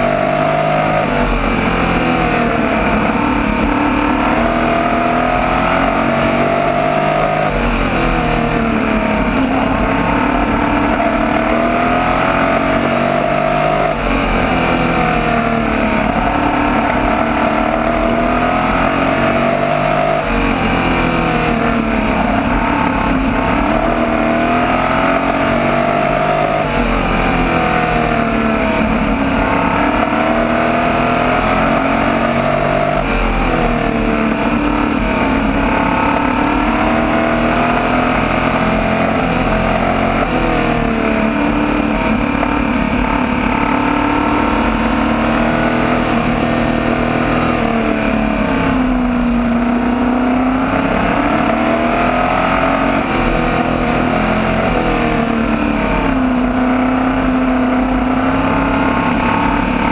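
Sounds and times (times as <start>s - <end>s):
race car engine at racing speed: 0.0s - 59.9s.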